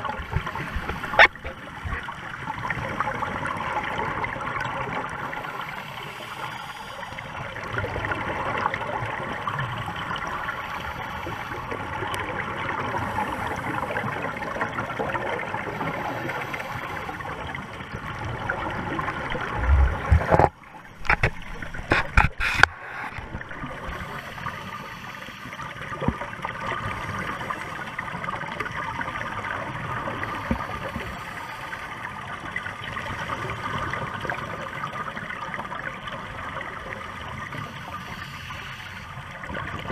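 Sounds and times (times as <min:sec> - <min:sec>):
underwater rushing water and bubbles: 0:00.0 - 0:39.9.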